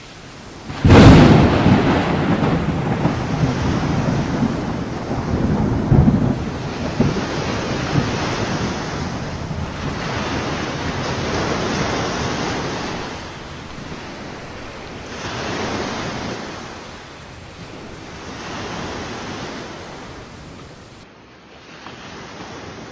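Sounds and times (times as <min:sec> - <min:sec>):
ocean waves breaking: 0:00.0 - 0:21.0
wind: 0:00.0 - 0:22.9.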